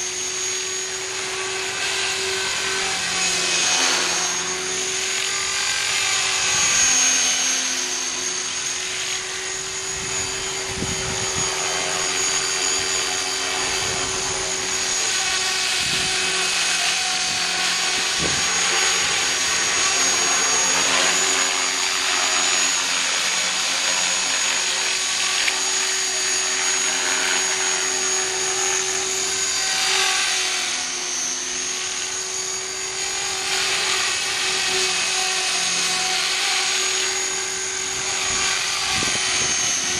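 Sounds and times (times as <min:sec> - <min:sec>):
rc helicopter motor whine: 0:00.0 - 0:39.9
rotor blades buzzing: 0:00.0 - 0:39.9.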